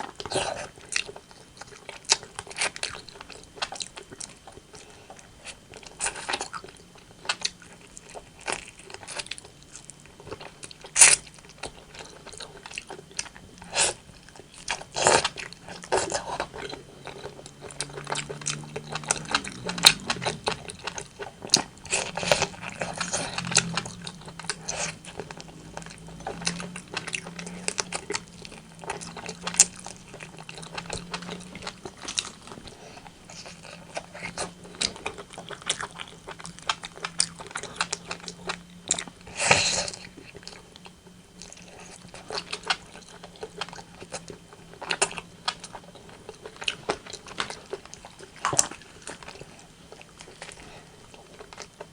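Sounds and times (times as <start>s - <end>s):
chicken eating crunching chewing: 0.0s - 51.9s.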